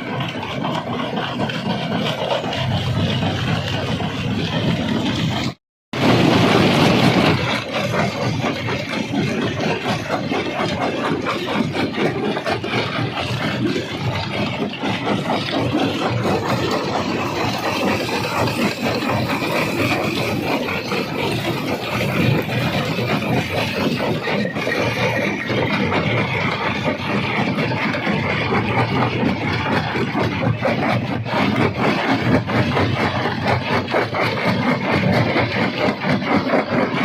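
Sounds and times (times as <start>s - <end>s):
machine drone: 0.0s - 37.0s
rock crusher clattering and grinding: 0.0s - 37.0s.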